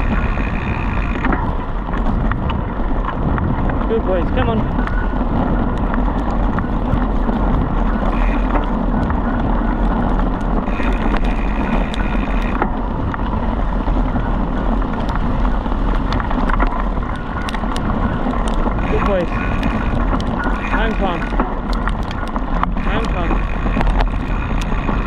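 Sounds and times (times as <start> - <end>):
bike ticks and rattles: 0.0 - 25.0
tyres rumbling on dirt: 0.0 - 25.0
wind buffeting microphone: 0.0 - 25.0.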